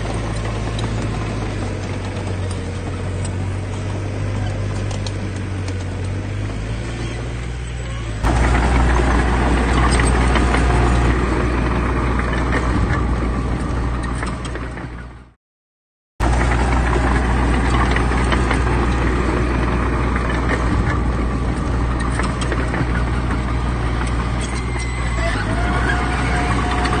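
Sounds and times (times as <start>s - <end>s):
diesel engine humming: 0.0s - 15.4s, 16.2s - 27.0s.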